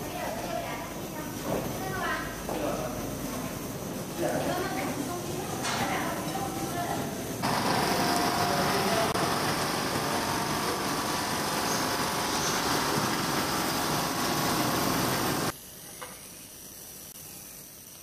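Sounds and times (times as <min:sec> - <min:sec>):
mechanical motor noise with hiss: 0:00.0 - 0:18.0.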